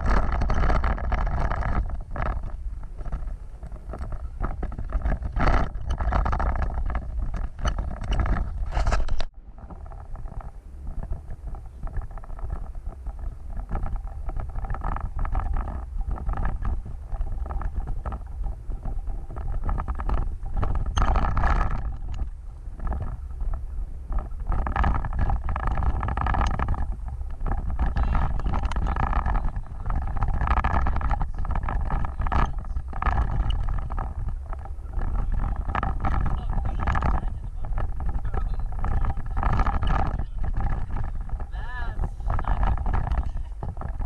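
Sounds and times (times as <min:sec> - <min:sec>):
off-road vehicle rumbling: 0:00.0 - 0:44.0
wind buffeting microphone: 0:00.0 - 0:44.0.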